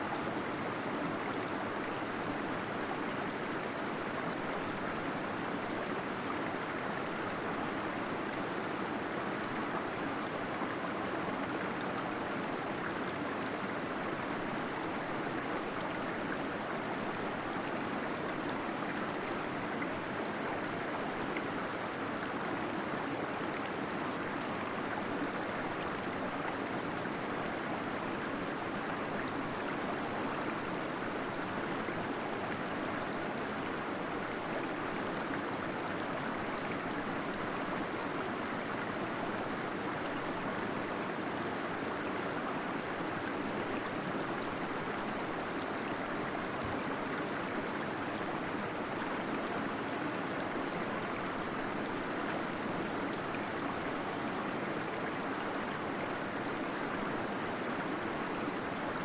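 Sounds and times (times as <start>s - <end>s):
small waterfall flowing: 0.0s - 59.0s.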